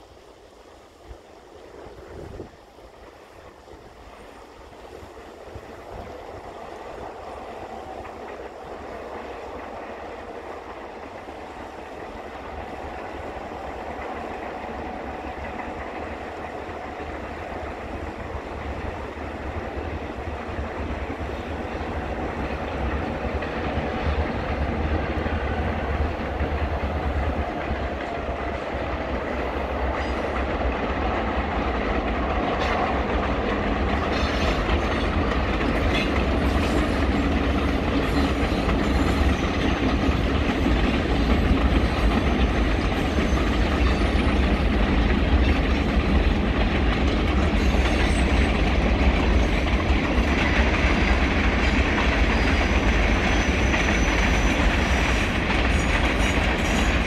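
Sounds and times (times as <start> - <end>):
locomotive engine rumble: 0.0 - 57.0
rail and wheel noise: 0.0 - 57.0.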